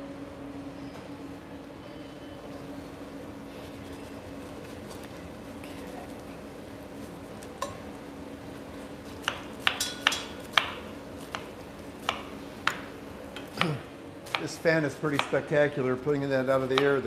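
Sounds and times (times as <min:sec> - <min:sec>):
range hood fan hum: 0:00.0 - 0:17.0.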